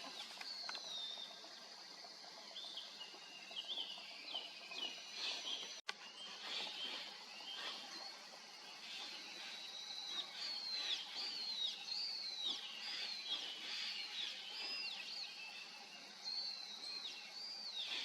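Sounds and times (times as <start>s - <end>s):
faint outdoor background: 0.0s - 18.0s.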